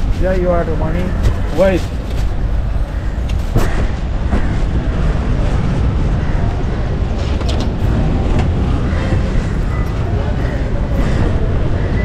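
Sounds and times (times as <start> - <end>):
low rumble of street noise: 0.0 - 12.0.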